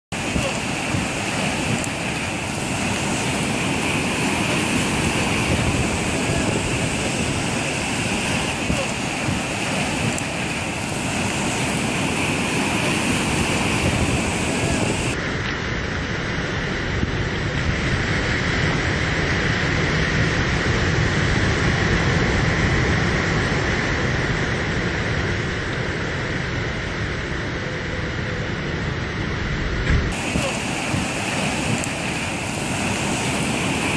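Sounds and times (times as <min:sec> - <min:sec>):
heavy surf: 0:00.0 - 0:33.9
wind rumble on microphone: 0:00.1 - 0:33.9.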